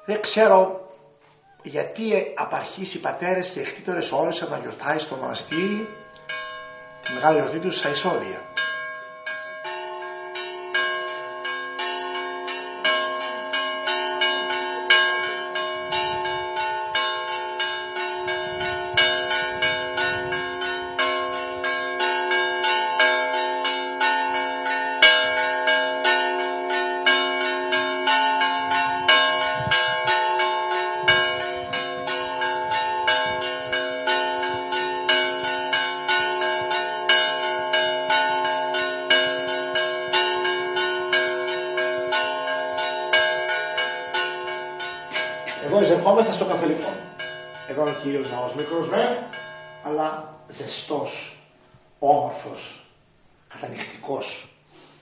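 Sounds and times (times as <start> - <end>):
church bells pealing: 0.0 - 51.5.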